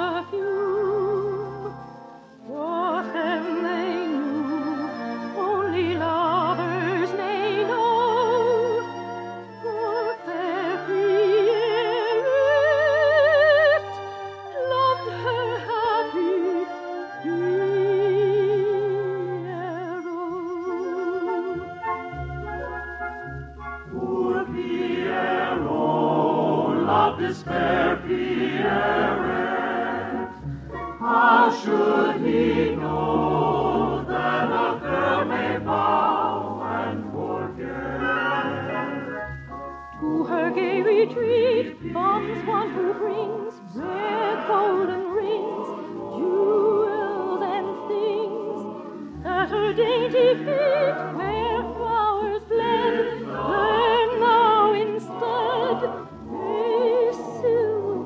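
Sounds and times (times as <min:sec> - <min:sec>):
operatic singing: 0:00.0 - 0:22.1, 0:23.8 - 0:58.0
orchestral music: 0:00.0 - 0:58.0
choir singing: 0:02.6 - 0:13.8, 0:14.5 - 0:22.8, 0:23.8 - 0:58.0.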